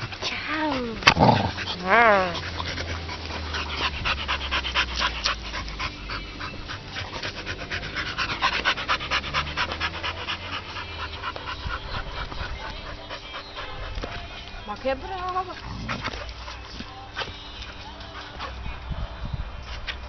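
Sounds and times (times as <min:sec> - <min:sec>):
dog panting: 0:00.0 - 0:18.9.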